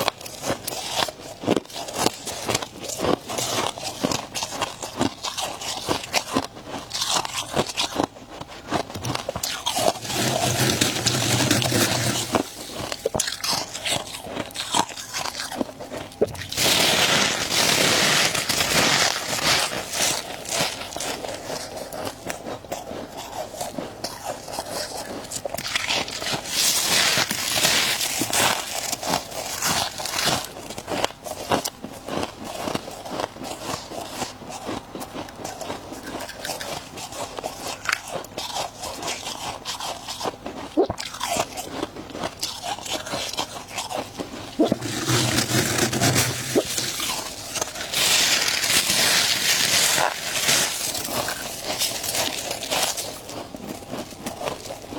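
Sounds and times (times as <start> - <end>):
ice crunching being chewed: 0.0 - 54.9.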